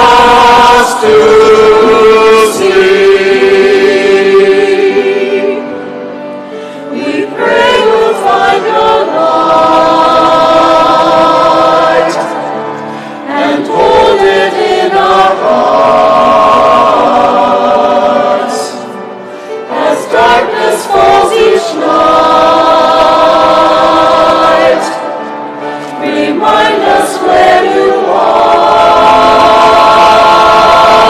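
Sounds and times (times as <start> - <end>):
church choir singing in harmony: 0.0 - 31.0.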